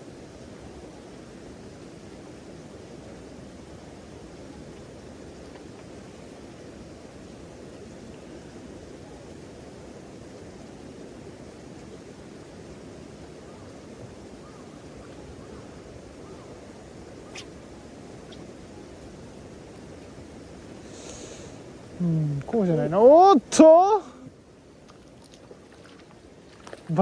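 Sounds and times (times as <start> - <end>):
low rushing outdoor noise: 0.0 - 27.0.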